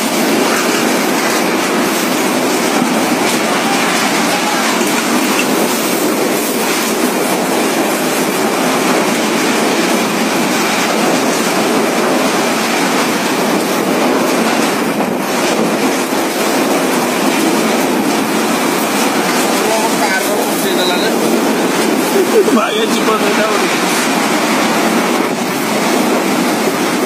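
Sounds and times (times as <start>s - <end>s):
heavy driving rain: 0.0s - 27.0s
strong wind: 0.0s - 27.0s.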